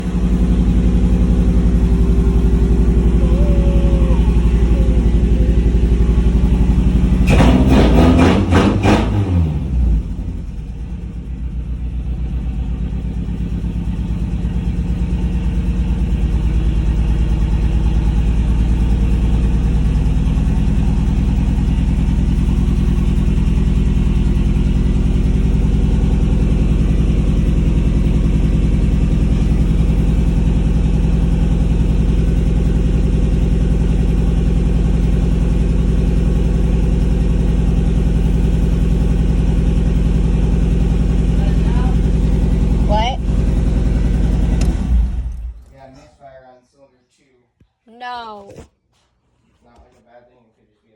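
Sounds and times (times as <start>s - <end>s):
car engine idling with misfire: 0.0s - 45.9s.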